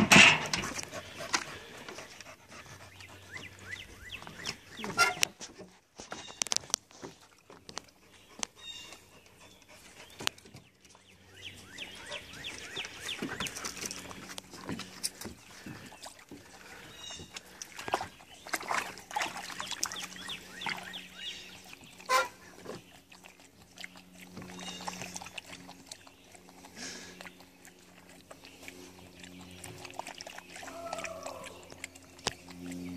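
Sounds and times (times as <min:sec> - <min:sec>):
water splashing in plastic pool: 0:00.0 - 0:32.9.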